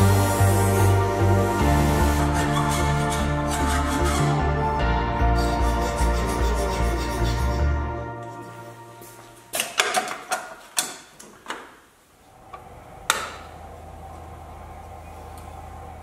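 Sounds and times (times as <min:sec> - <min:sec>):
low hum: 0:00.0 - 0:09.5, 0:12.3 - 0:16.0.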